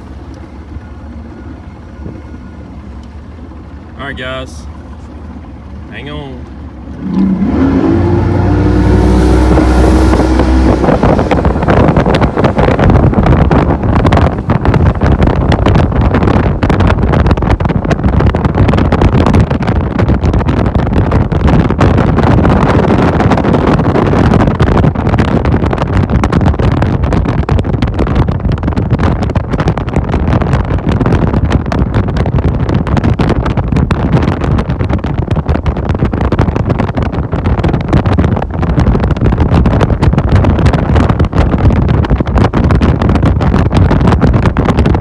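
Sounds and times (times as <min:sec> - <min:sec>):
wind buffeting on microphone: 0:00.0 - 0:45.0.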